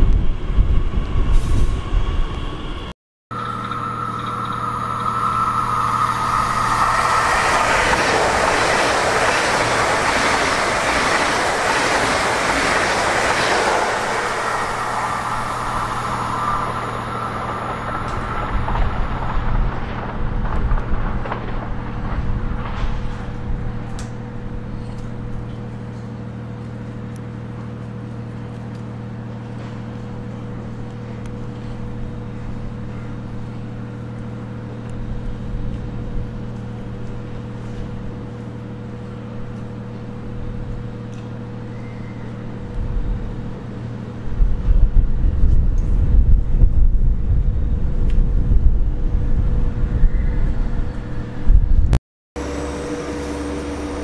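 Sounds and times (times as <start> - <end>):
low train rumble: 0.0 - 54.0
train mechanical hum: 0.0 - 54.0.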